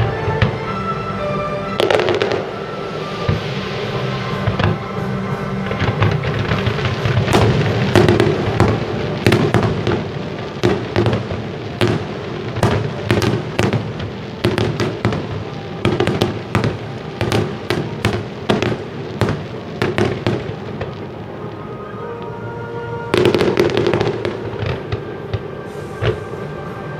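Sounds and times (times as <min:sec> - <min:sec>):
fireworks bangs and crackles: 0:00.0 - 0:26.9
fireworks rumble: 0:00.0 - 0:26.9.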